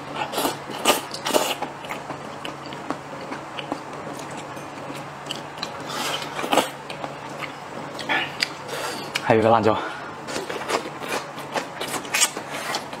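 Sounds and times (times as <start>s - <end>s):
person chewing food: 0.1s - 9.2s, 10.2s - 13.0s.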